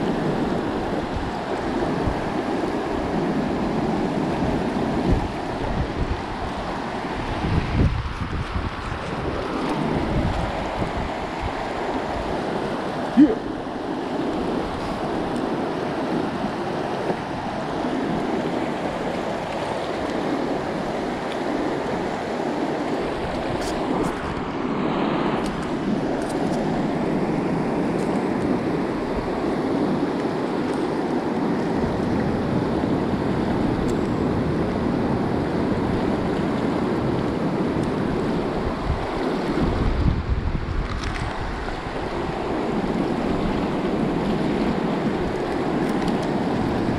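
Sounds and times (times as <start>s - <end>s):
river water flowing: 0.0s - 46.9s
wind rumble on microphone: 0.0s - 46.9s.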